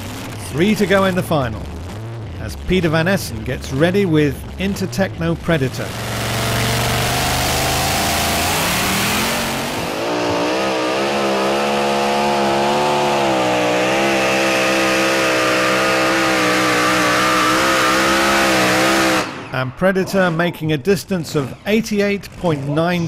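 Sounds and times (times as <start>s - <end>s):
tractor engine at full throttle: 0.0s - 20.4s.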